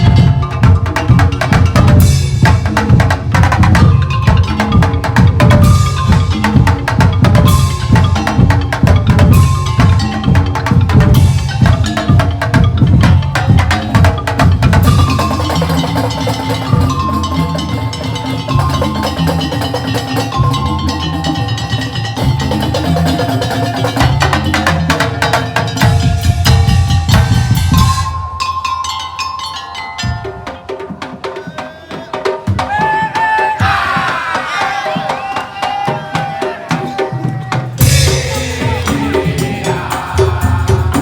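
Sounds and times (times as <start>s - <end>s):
percussion ensemble drumming: 0.0s - 41.0s.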